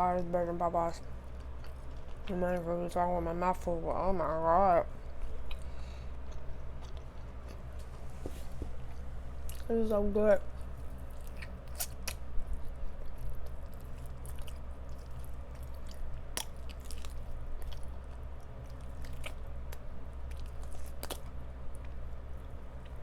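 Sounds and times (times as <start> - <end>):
room fan humming: 0.0 - 23.0
chewing crispy fried chicken: 0.2 - 3.0, 3.6 - 9.7, 10.4 - 23.0.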